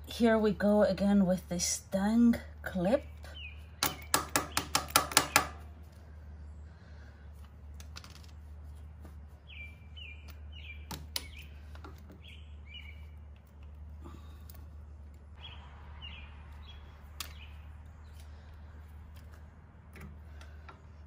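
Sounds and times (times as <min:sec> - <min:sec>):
birds chirping: 0:00.2 - 0:07.7, 0:08.6 - 0:21.0.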